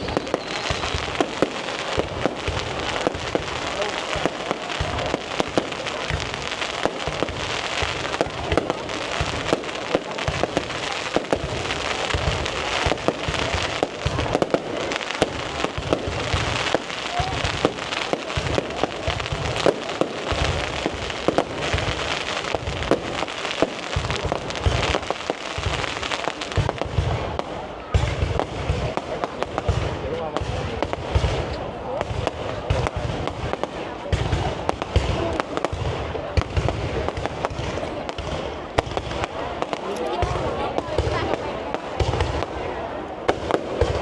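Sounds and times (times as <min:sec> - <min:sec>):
fireworks bangs and crackles: 0:00.0 - 0:44.0
fireworks low booms: 0:00.0 - 0:44.0.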